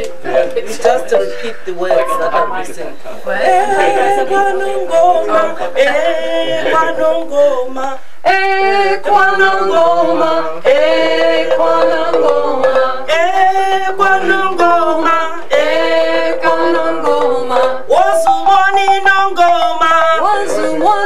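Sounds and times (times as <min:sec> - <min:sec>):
woman singing unaccompanied: 0:00.0 - 0:21.0.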